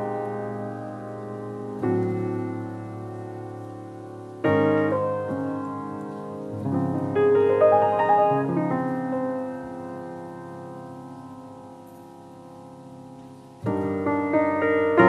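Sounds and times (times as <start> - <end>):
grand piano playing: 0.0 - 15.0.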